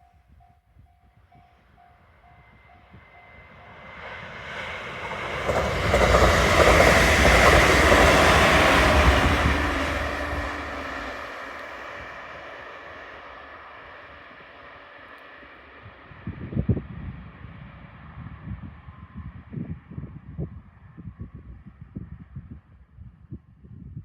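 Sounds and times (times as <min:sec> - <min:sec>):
train passing at speed: 0:00.8 - 0:22.5.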